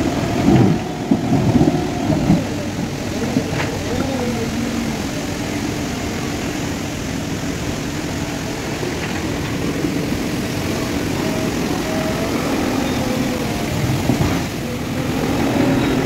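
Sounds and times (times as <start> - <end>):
diesel engine running: 0.0 - 16.0
loader bucket working: 0.0 - 16.0.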